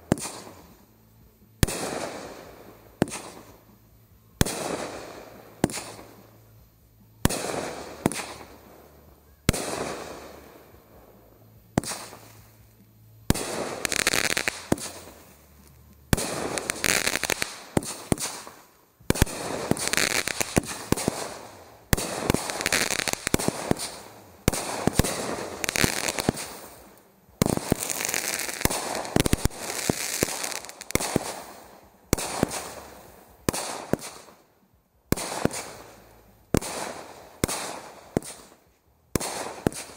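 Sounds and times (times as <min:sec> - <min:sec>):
fireworks bangs with hiss: 0:00.0 - 0:39.9.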